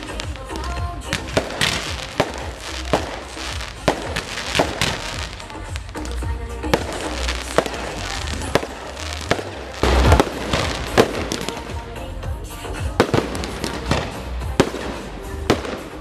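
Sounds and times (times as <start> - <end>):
fireworks banging and crackling: 0.0 - 16.0
music: 0.0 - 16.0.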